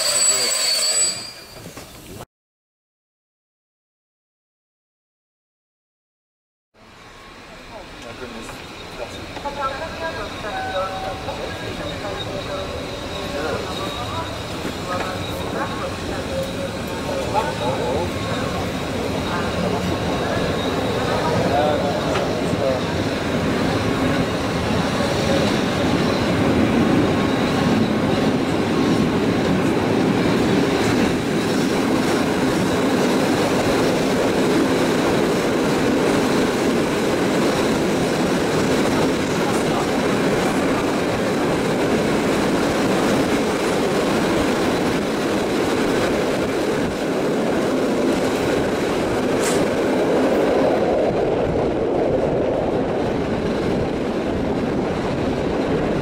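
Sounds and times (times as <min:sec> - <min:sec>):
train wheels rumbling on track: 0:06.8 - 0:56.0.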